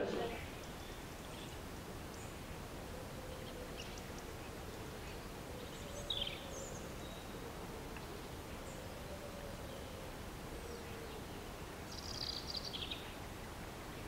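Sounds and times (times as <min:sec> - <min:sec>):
faint bird chirps: 0:00.0 - 0:13.2
low background hiss: 0:00.0 - 0:14.0.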